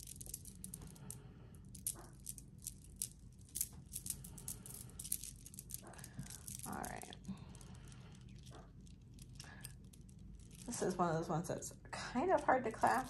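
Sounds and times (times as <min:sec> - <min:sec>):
necklace beads clicking and rattling: 0:00.0 - 0:11.2, 0:12.3 - 0:13.0.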